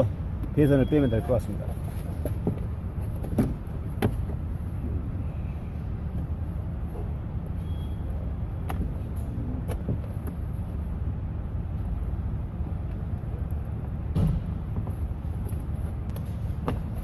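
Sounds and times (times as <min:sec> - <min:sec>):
steady low rumble: 0:01.8 - 0:17.0.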